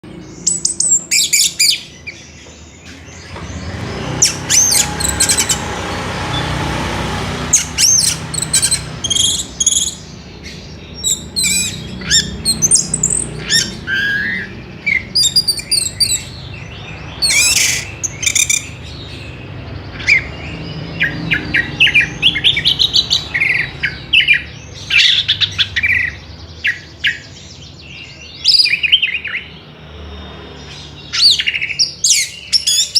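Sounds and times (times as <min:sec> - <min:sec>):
thrush singing: 0:00.0 - 0:28.6.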